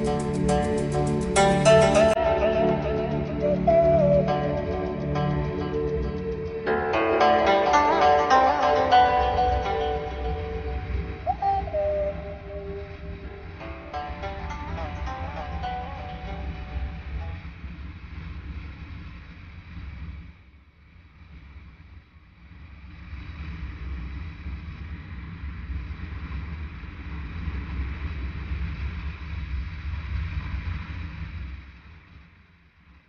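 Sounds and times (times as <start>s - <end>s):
wind noise on microphone: 0.0s - 33.0s.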